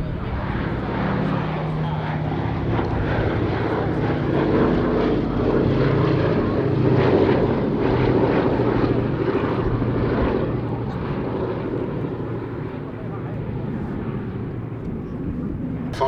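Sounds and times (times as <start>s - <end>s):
propeller plane engines droning: 0.0s - 16.0s.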